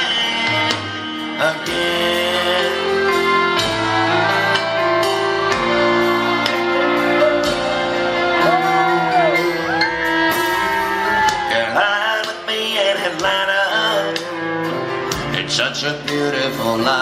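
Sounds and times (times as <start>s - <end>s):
country band instrumental: 0.0s - 17.0s.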